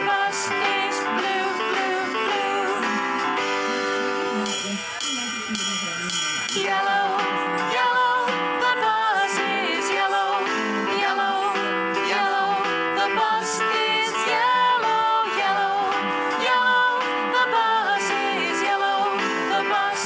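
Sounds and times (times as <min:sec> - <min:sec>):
bright tune with plucked guitar: 0:00.0 - 0:20.0.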